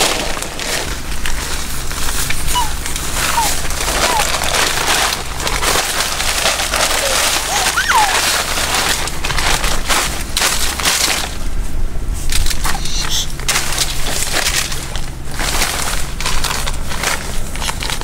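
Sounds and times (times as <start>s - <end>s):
plastic sacks rustling and crackling: 0.0s - 18.0s.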